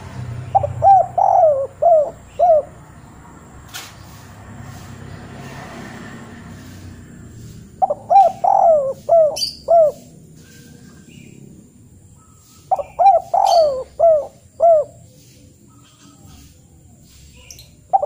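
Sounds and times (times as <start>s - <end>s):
bird calling: 0.0s - 3.2s, 6.6s - 18.0s.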